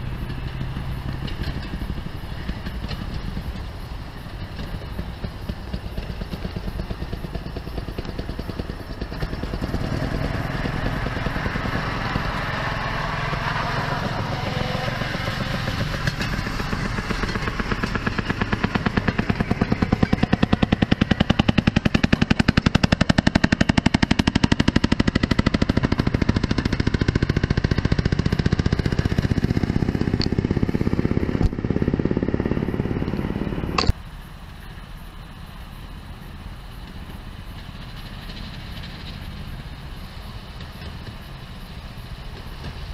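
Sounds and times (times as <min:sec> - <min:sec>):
small engines popping exhaust: 0:00.0 - 0:42.9.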